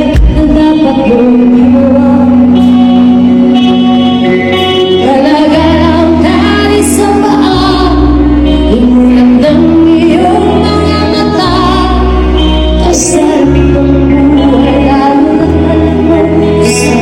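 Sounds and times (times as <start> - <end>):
bass line: 0.0 - 17.0
live band playing: 0.0 - 17.0
woman singing: 0.0 - 17.0.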